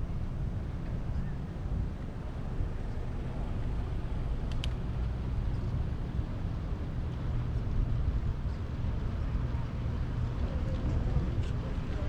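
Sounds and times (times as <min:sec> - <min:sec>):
wind and road noise rumble: 0:00.0 - 0:12.0.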